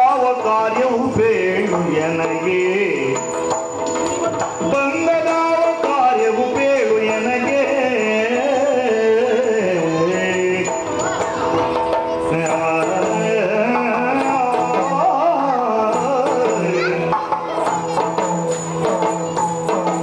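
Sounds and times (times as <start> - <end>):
man singing: 0.0 - 11.4, 12.0 - 20.0
drum strokes: 0.0 - 20.0.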